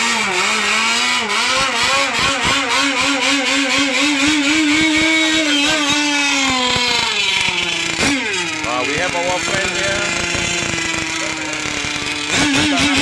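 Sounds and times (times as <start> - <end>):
rc boat engine running: 0.0 - 13.0.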